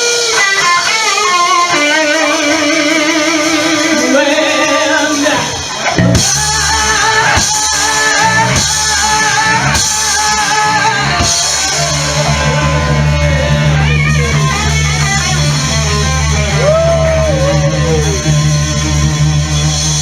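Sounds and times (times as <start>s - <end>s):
blues-rock band playing: 0.0s - 20.0s.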